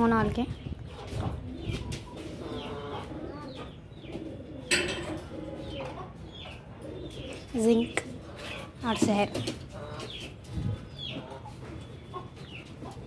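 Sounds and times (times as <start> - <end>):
birds cooing and chirping: 0.0 - 13.0.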